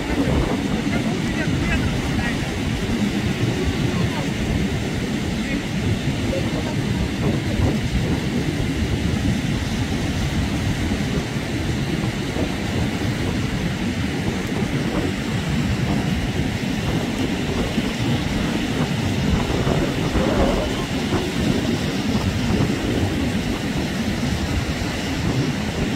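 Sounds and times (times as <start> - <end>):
surf at the shoreline: 0.0 - 25.9
wind: 0.0 - 25.9.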